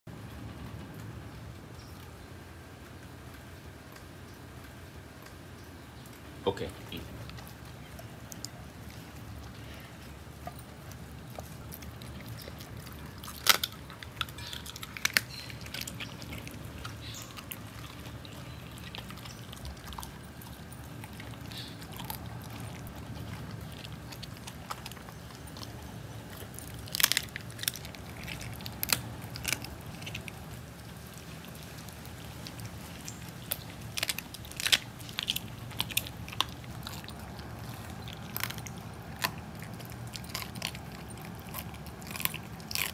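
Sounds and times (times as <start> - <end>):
dog chewing and crunching: 0.2 - 42.9.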